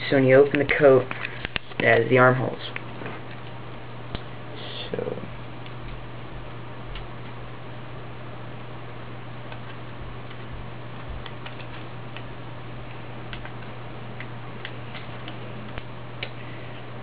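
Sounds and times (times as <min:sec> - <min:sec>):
low hum and hiss: 0:00.0 - 0:17.0.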